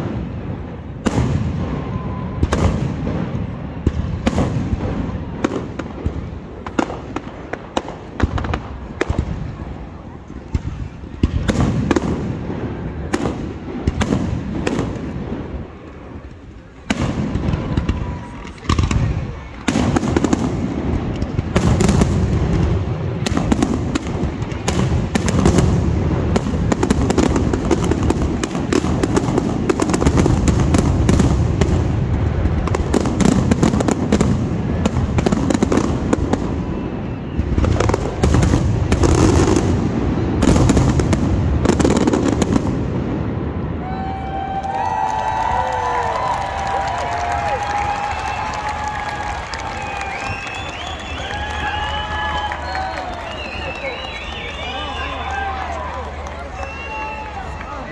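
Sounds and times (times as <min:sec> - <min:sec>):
firework crackles: 0:00.0 - 0:57.9.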